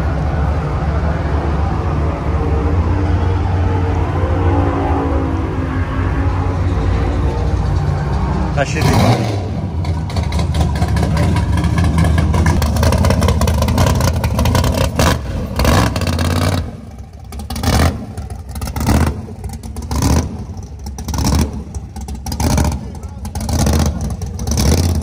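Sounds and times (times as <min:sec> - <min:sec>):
car engine running and revving: 0:00.0 - 0:25.0.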